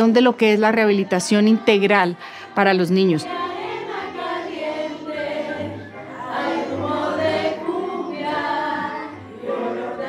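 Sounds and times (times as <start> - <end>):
choir singing: 0.8 - 10.0.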